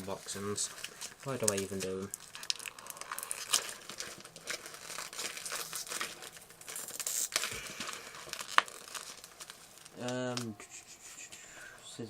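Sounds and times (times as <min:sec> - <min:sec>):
plastic packaging crinkling and tearing: 0:00.0 - 0:10.6.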